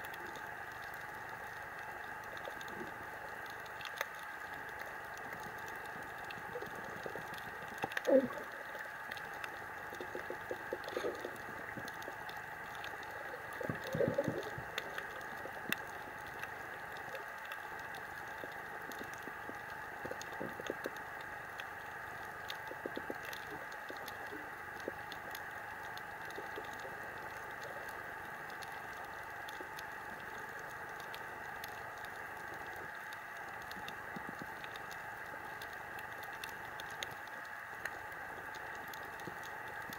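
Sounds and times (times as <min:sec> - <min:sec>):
faint crackling clicks: 0:00.0 - 0:39.9.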